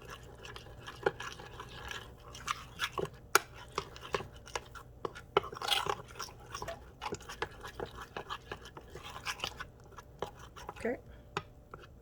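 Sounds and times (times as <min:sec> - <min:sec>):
spoon stirring thick batter: 0:00.0 - 0:12.0.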